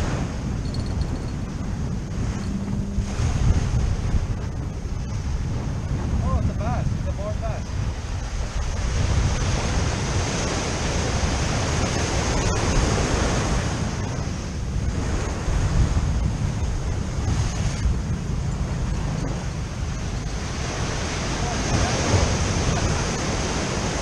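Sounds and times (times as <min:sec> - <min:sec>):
ocean surf breaking: 0:00.0 - 0:24.0
wind rumbling on microphone: 0:00.0 - 0:24.0.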